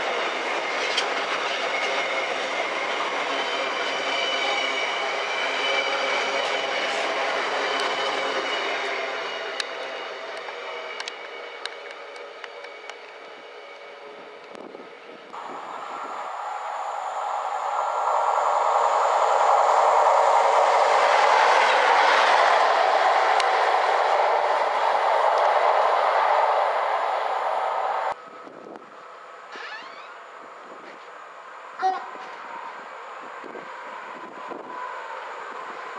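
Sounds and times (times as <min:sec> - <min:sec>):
train passing at speed: 0:00.0 - 0:29.5, 0:30.2 - 0:35.9.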